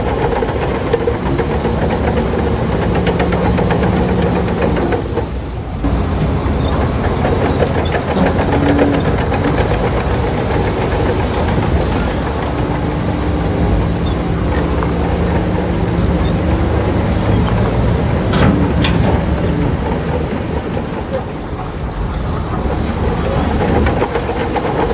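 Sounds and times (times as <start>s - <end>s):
sharp metallic knocks: 0.0s - 21.7s
diesel machinery running: 0.0s - 24.9s
faint regular clatter: 0.0s - 24.9s.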